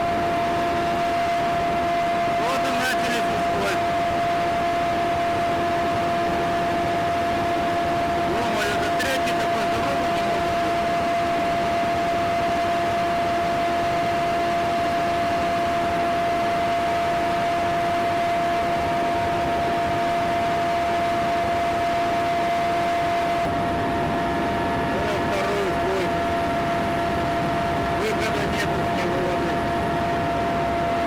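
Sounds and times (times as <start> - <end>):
aircraft engine rush with whine: 0.0 - 31.0.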